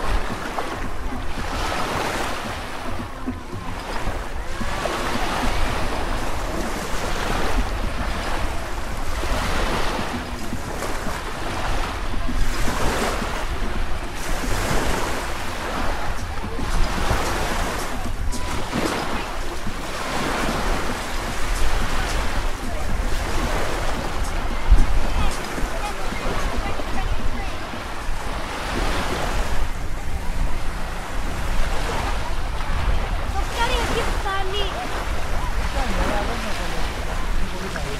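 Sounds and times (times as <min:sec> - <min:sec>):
faint voices: 0:00.0 - 0:37.9
small waves washing onto shore: 0:00.0 - 0:37.9
wind rumbling on microphone: 0:00.0 - 0:37.9.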